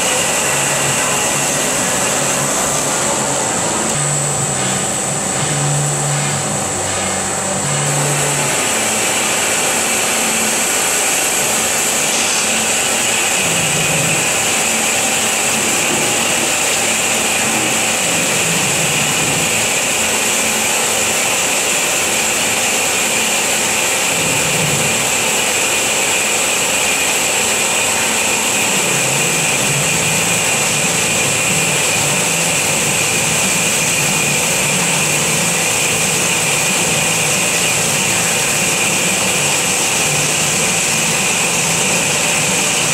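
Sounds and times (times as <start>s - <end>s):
band saw cutting metal: 0.0s - 42.9s.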